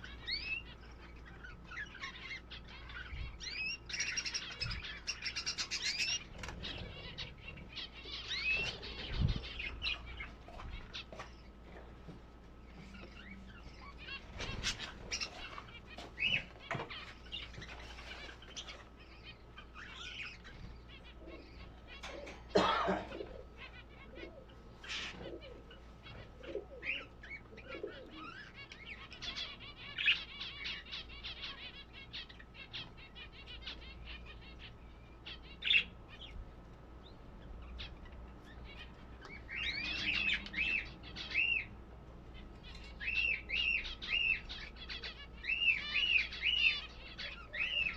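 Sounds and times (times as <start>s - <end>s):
caged birds chirping: 0.0s - 47.9s.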